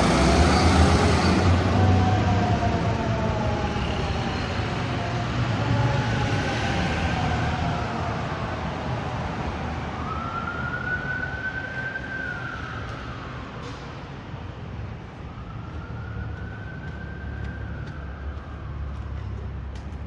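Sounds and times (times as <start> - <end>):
siren wailing: 0.0 - 13.7, 14.8 - 19.2
low rumble of vehicle engines: 0.0 - 20.0.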